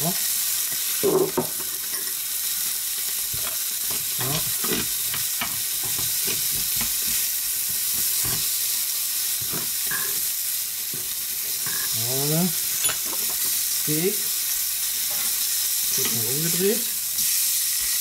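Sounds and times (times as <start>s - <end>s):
steak and onions sizzling: 0.0s - 18.0s.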